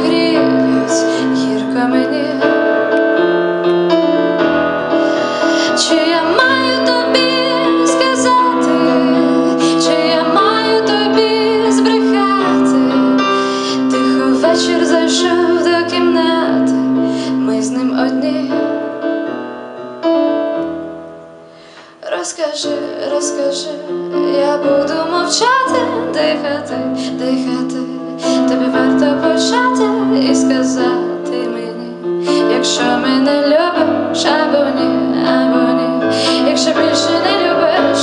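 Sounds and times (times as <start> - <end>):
woman singing: 0.0 - 3.0, 5.0 - 18.9, 21.8 - 38.0
keyboard playing piano sound: 0.0 - 38.0.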